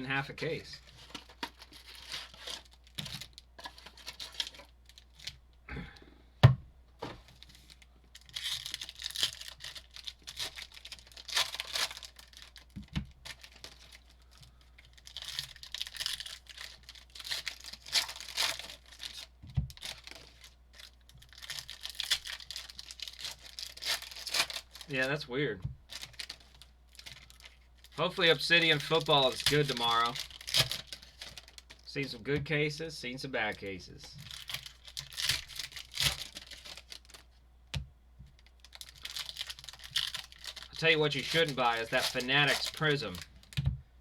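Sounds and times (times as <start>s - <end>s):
foil card packs tearing and crinkling: 0.4s - 5.4s, 7.2s - 25.1s, 25.8s - 32.1s, 34.2s - 37.3s, 38.4s - 43.6s.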